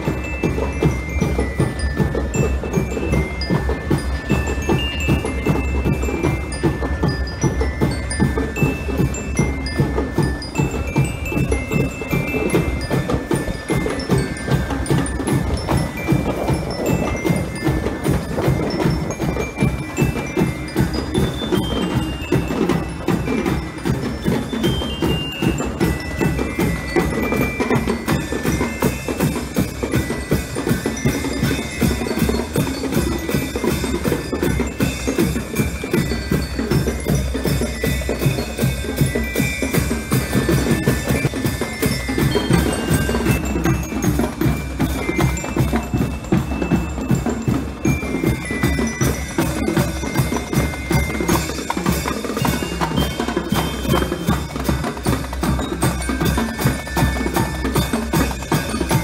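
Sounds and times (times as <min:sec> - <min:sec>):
bell lyre melody: 0:00.0 - 0:59.0
marching band drumming: 0:00.0 - 0:59.0.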